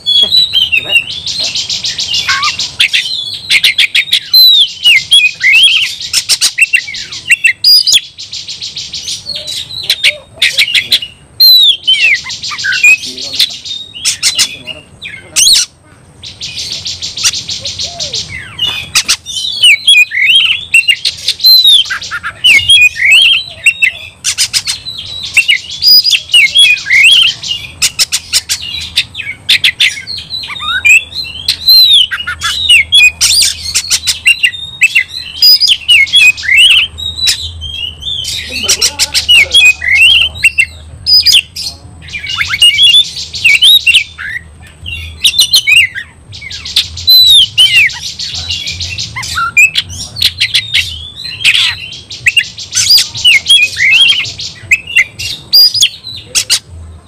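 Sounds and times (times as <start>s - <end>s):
bird singing: 0.0s - 57.0s.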